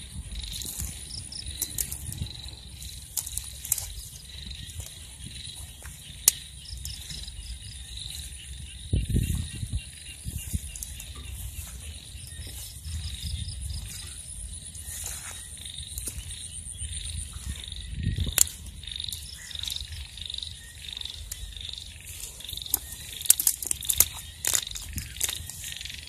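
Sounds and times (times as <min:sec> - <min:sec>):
footsteps rustling through grass: 0:00.0 - 0:26.0
high insect trill: 0:00.0 - 0:26.0
repeating frog call: 0:00.0 - 0:26.0.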